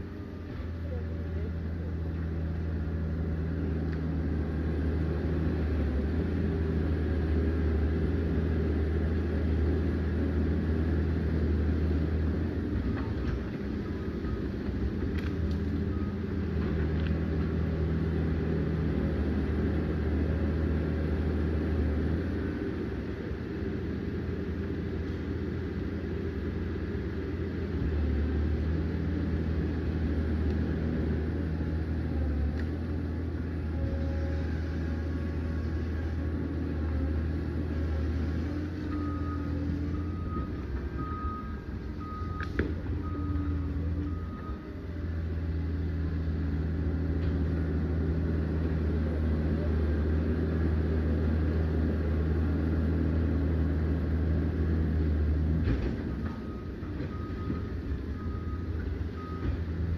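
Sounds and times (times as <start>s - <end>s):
dozer diesel engine under load: 0.0s - 59.9s.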